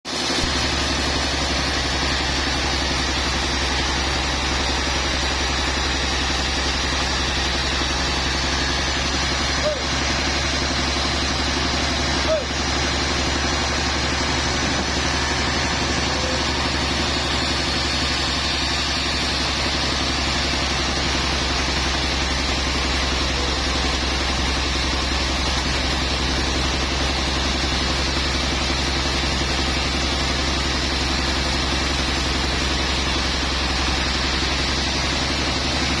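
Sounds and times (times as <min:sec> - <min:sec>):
sawmill machinery droning: 0:00.0 - 0:36.0.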